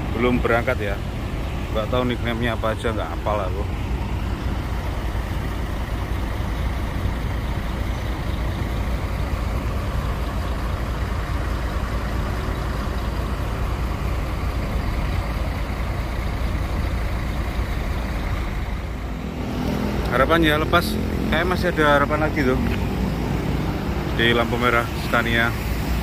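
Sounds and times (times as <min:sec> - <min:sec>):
diesel buses idling: 0:00.0 - 0:26.0.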